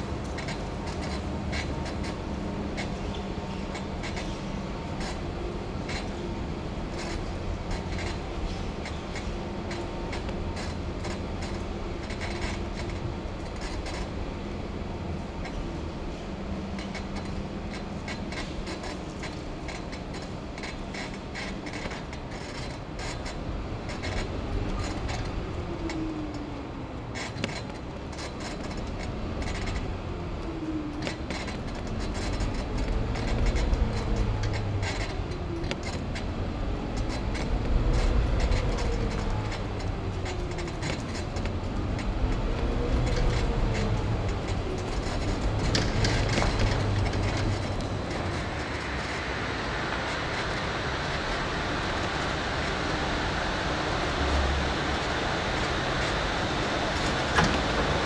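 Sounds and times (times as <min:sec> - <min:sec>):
vehicle motor and tyres rumbling: 0:00.0 - 0:58.0.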